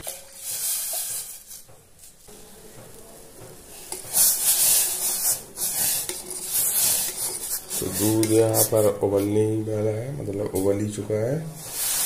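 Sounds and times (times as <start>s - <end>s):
milk hissing in a pan: 0.0s - 9.5s, 11.4s - 12.0s.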